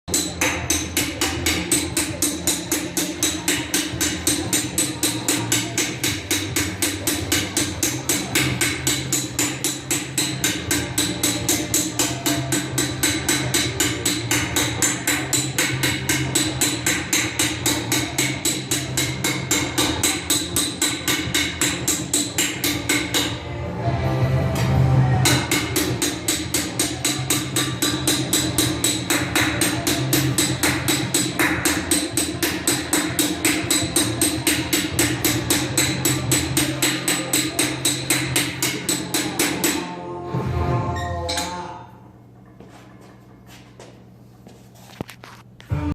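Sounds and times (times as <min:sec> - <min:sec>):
hammer striking metal on anvil: 0:00.1 - 0:23.4, 0:24.6 - 0:40.0.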